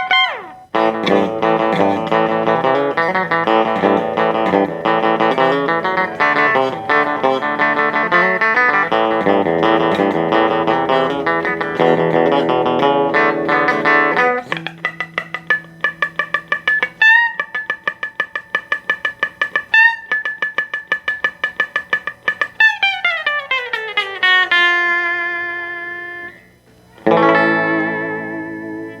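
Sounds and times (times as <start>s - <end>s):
electric guitar playing surf rock: 0.0s - 29.0s.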